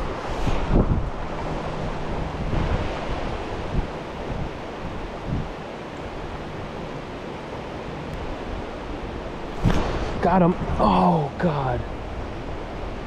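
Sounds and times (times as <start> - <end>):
flowing stream water: 0.0 - 13.0
wind buffeting microphone: 0.0 - 13.0.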